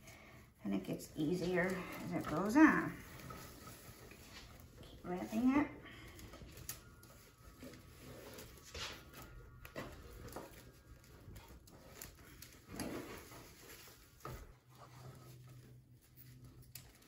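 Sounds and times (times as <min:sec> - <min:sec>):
ribbon rustling and scraping: 0:00.0 - 0:17.0.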